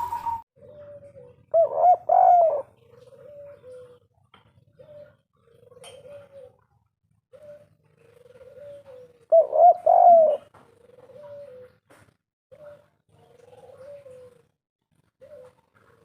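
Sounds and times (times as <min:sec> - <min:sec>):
dove cooing: 0:00.0 - 0:11.9, 0:12.5 - 0:16.0.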